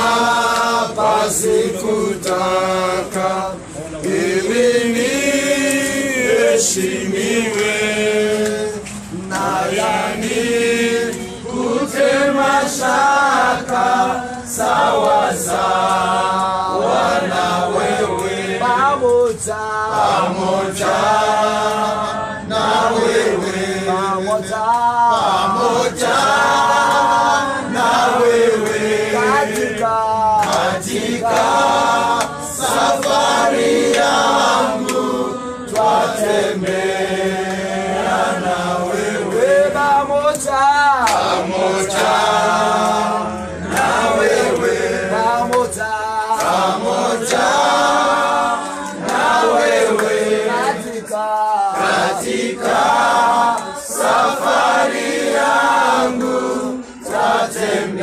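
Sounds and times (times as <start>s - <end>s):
group singing a hymn in chorus: 0.0s - 58.0s.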